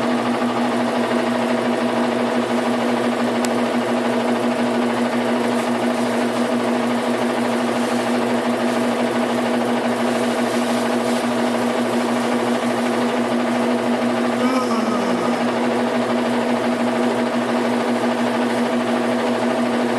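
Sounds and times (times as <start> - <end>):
washing machine hum and whir: 0.0 - 19.9.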